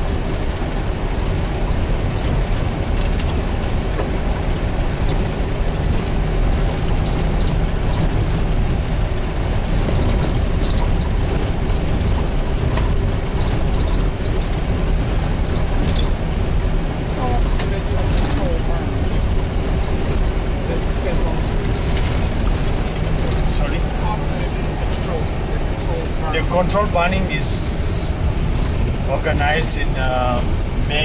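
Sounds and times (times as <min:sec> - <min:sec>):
vehicle engine and tyre rumble: 0:00.0 - 0:31.0.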